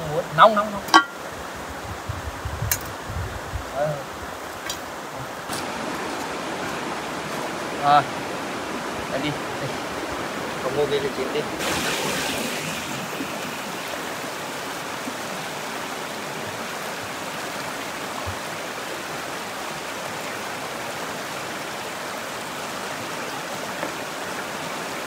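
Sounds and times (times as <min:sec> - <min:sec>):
stream flowing over rocks: 0:00.0 - 0:25.0.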